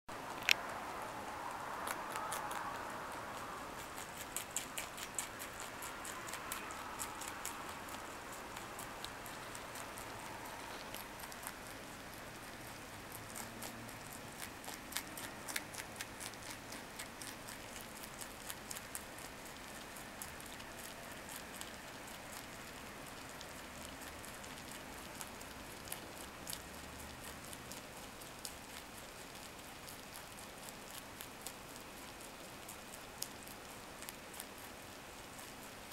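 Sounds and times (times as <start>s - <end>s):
rabbit chewing leaves: 0.1s - 35.9s.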